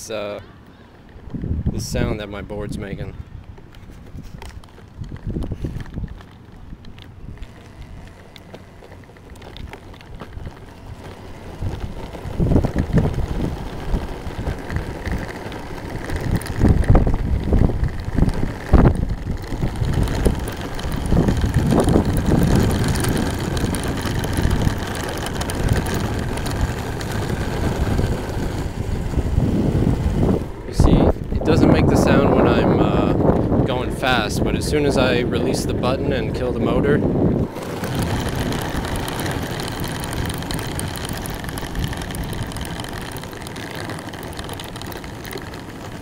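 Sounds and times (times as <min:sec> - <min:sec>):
electric skateboard on rough asphalt: 0:00.0 - 0:46.0
wind on microphone: 0:01.2 - 0:08.8, 0:09.4 - 0:46.0
belt-drive motor rattle: 0:04.3 - 0:32.6, 0:37.4 - 0:46.0.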